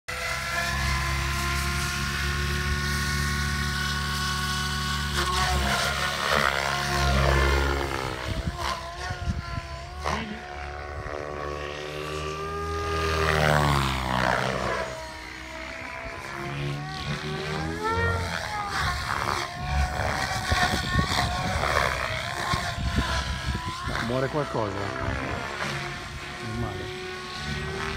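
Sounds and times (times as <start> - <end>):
model helicopter motor and rotor: 0.1 - 27.9.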